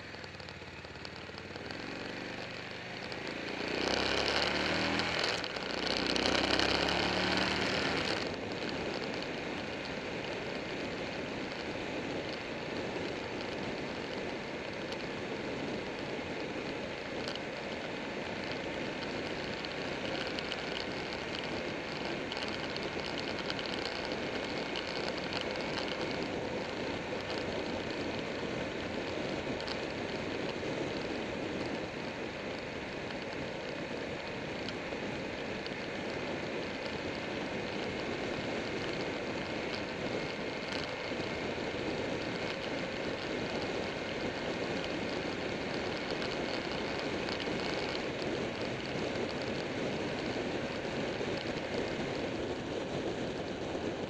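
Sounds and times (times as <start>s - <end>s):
motorcycle road noise: 0.0s - 54.0s.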